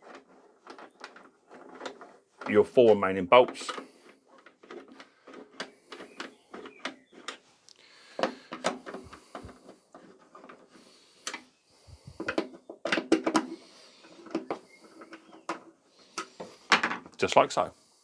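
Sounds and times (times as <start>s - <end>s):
screwdriver clicking and scraping: 0.0s - 2.6s, 3.6s - 7.5s, 8.2s - 16.6s.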